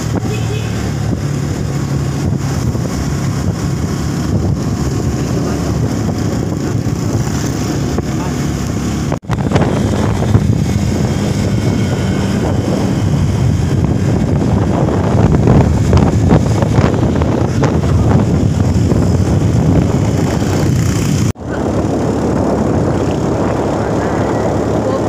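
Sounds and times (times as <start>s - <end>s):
motorcycle engine running: 0.0s - 25.0s
tyres on wet road: 0.0s - 25.0s
wind noise on microphone: 0.0s - 25.0s.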